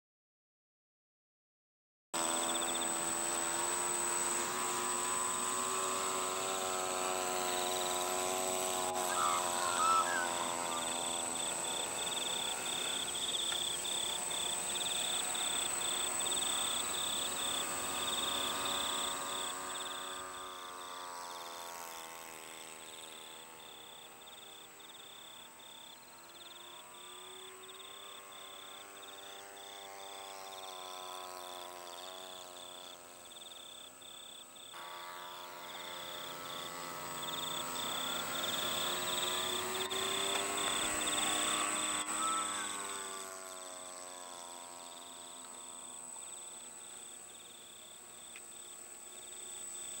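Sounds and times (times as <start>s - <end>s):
high-pitched insect trill: 2.2s - 50.0s
quadcopter propellers buzzing: 2.2s - 50.0s.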